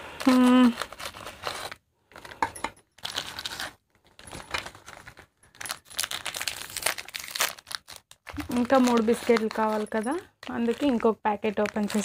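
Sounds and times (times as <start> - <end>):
plastic packet crinkling: 0.1 - 12.0.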